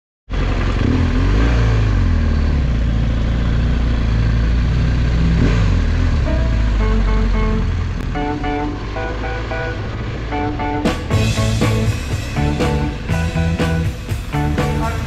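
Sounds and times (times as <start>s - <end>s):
motorcycle engine running: 0.3s - 15.0s.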